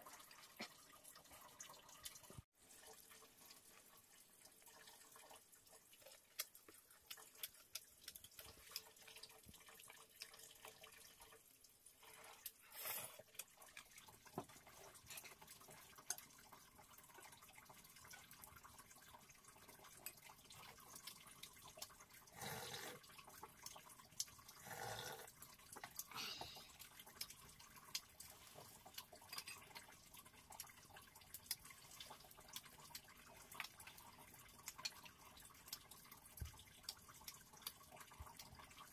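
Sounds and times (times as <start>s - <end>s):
faint water dripping: 0.0s - 38.9s.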